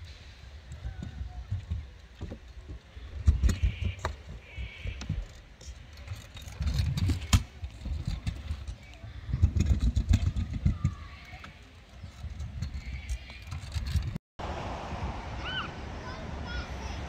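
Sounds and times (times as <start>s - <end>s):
clicks and knocks from wheels: 0.0s - 14.2s
scooter wheels rolling rumble: 0.0s - 17.0s.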